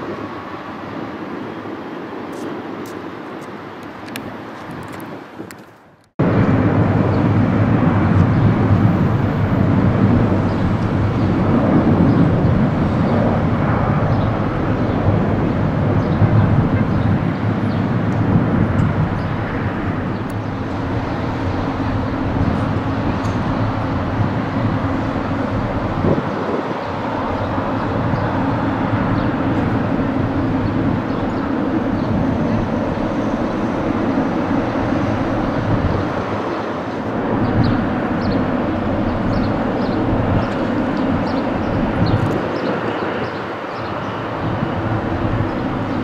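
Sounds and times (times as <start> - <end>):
jet engines rumbling at idle: 0.0 - 46.0.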